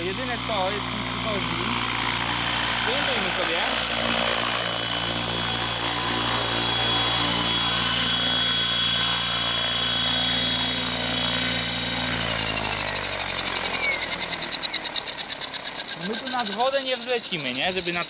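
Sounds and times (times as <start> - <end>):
model helicopter rotors whining: 0.0 - 18.0
rotor blades swishing: 0.0 - 18.0.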